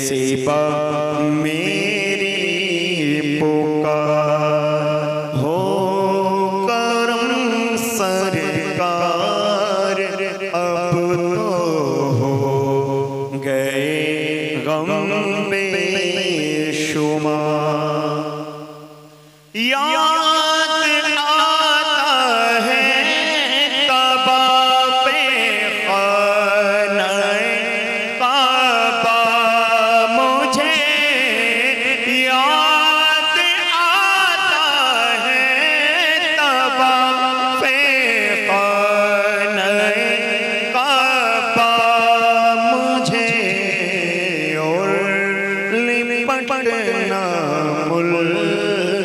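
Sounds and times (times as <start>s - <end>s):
man singing into a microphone: 0.0s - 49.0s.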